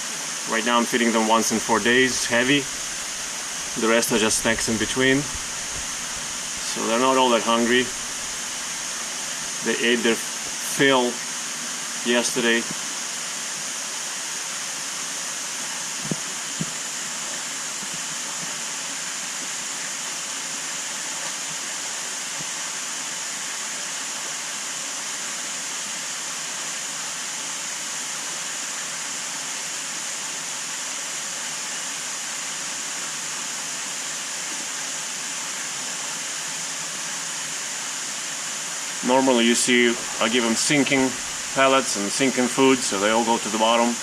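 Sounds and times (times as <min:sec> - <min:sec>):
rushing aquarium water: 0:00.0 - 0:44.0.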